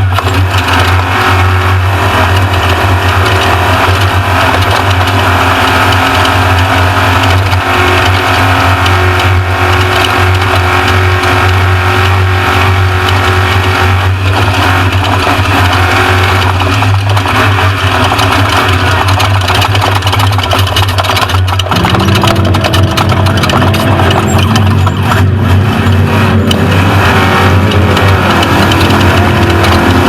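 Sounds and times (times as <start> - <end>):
road noise: 0.0 - 30.0
truck engine roaring: 0.0 - 30.0.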